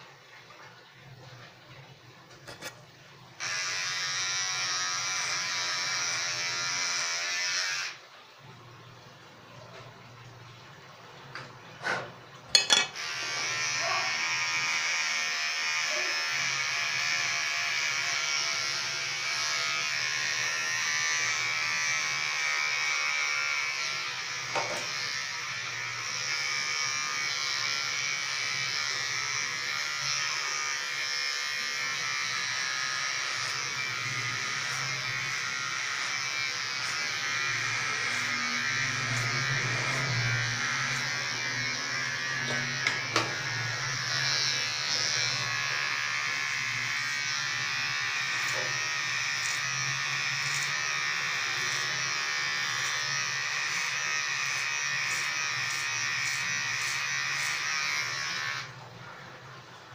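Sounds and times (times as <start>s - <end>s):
electric hair clipper running: 3.4s - 8.0s, 12.6s - 58.8s.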